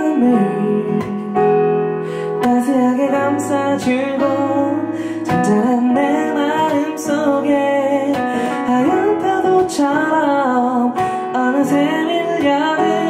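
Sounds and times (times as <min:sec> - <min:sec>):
man singing a slow ballad: 0:00.0 - 0:13.0.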